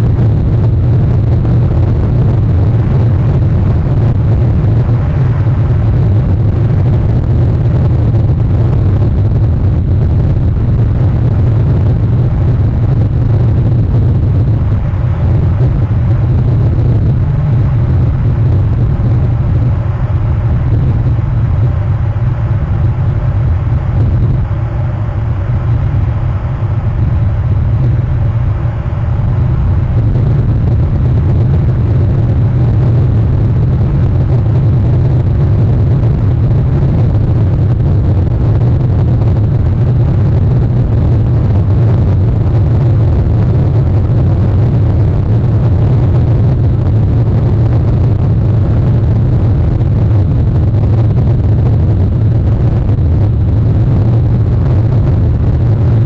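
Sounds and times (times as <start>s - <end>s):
loud low rumble: 0.0s - 56.0s.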